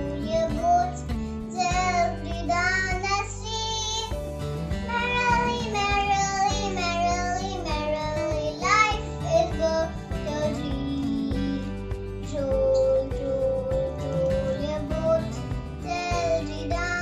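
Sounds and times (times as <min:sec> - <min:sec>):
child singing: 0:00.0 - 0:04.2, 0:04.9 - 0:17.0
instrumental backing music: 0:00.0 - 0:17.0.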